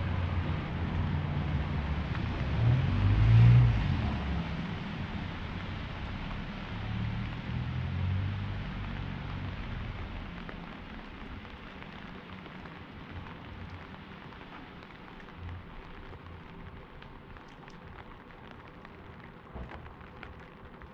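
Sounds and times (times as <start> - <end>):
light rain hissing: 0.0 - 20.9
water dripping: 0.0 - 20.9.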